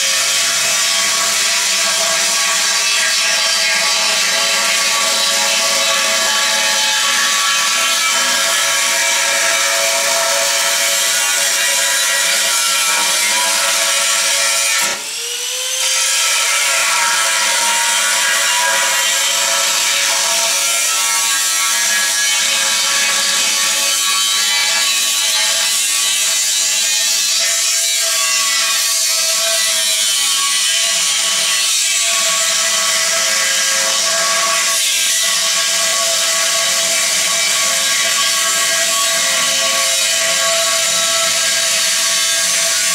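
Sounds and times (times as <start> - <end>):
angle grinder cutting steel: 0.0 - 42.9.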